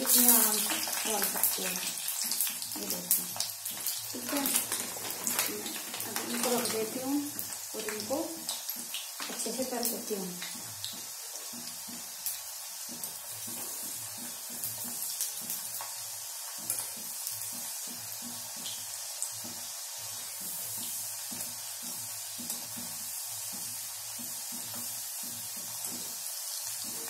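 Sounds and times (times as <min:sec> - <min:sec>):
fries sizzling in hot oil: 0:00.0 - 0:27.0.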